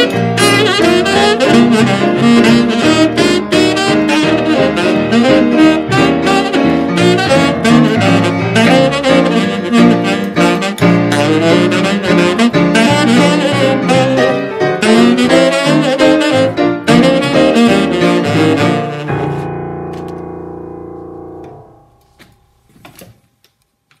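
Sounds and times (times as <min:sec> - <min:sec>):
tenor saxophone: 0:00.0 - 0:19.5
piano playing: 0:00.0 - 0:22.9.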